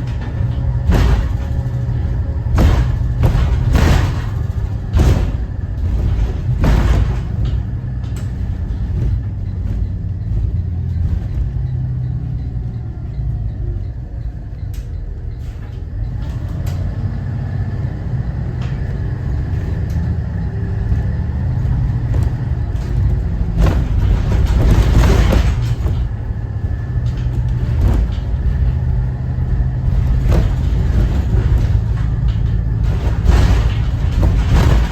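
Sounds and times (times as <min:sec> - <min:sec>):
bus diesel engine rumbling: 0:00.0 - 0:34.9
rattles and knocks: 0:00.0 - 0:34.9.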